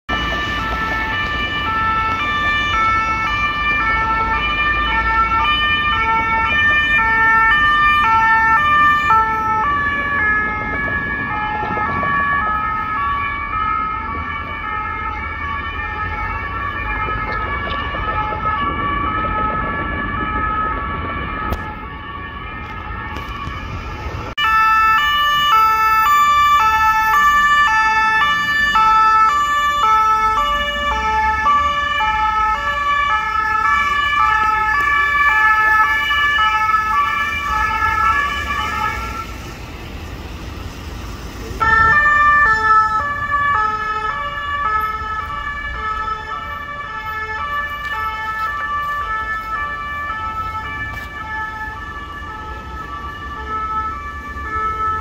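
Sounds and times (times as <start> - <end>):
city traffic rumble: 0.0 - 55.0
two-tone police sirens: 0.0 - 55.0.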